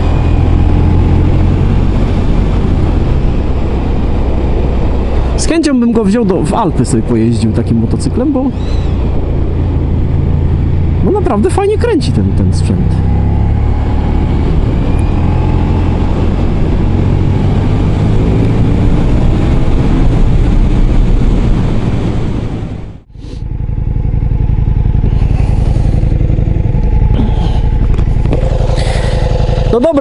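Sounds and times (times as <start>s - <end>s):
wind rush: 0.0s - 11.1s, 13.0s - 29.8s
motorcycle engine revving: 0.0s - 30.0s.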